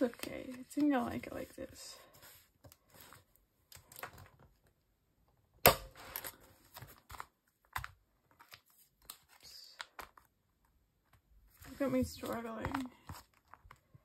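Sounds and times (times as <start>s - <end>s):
plastic pages rustling: 0.0s - 4.6s, 6.1s - 10.4s, 11.1s - 14.0s.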